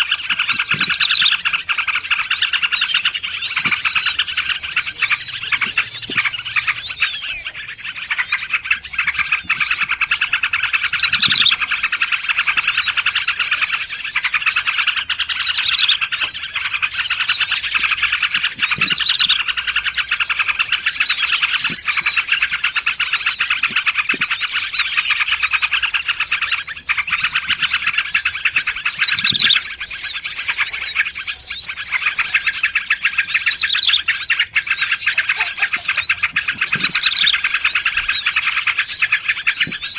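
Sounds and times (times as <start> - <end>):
small songbirds chirping and trilling: 0.0 - 39.9.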